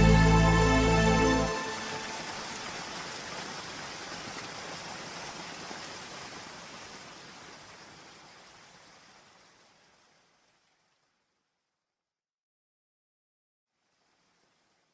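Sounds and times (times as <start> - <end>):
steady rain: 0.0 - 11.6, 13.7 - 14.9.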